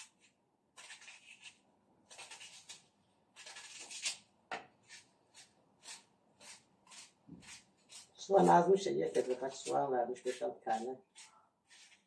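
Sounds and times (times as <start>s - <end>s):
knife slicing onion: 0.0s - 12.0s.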